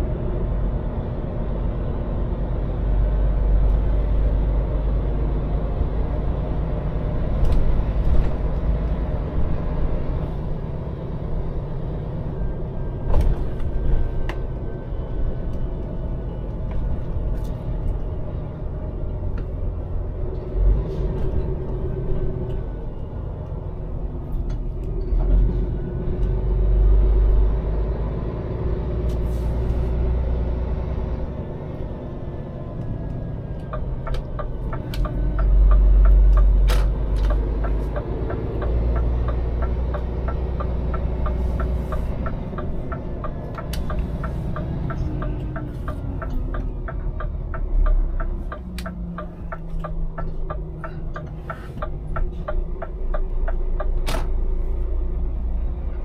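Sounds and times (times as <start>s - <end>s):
road rumble: 0.0s - 56.0s
truck diesel engine: 0.0s - 56.0s.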